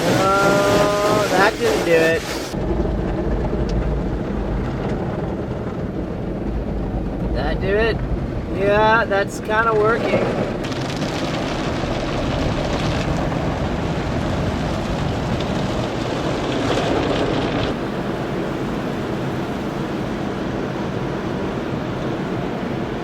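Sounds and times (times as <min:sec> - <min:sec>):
water spraying against a car: 0:00.0 - 0:23.0.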